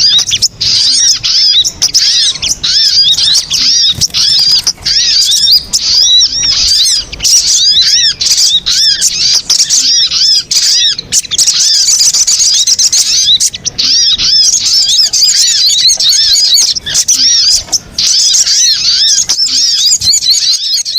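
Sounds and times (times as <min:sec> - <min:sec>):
high-pitched bird chirps: 0:00.0 - 0:20.9.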